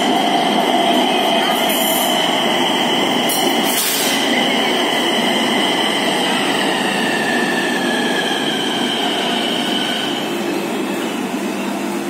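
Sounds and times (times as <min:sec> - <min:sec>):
high train whine: 0:00.0 - 0:12.0
train wheels rumbling on rails: 0:00.0 - 0:12.0.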